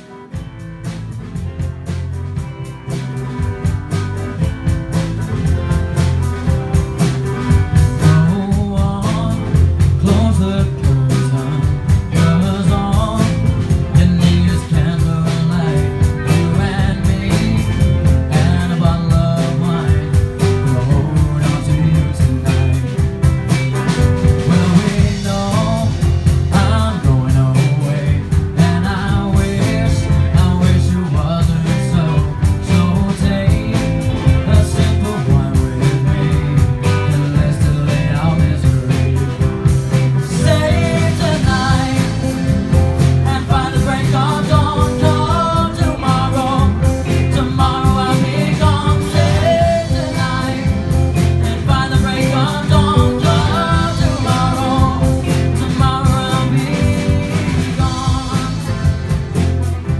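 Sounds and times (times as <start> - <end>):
band playing blues rock: 0.0 - 59.9.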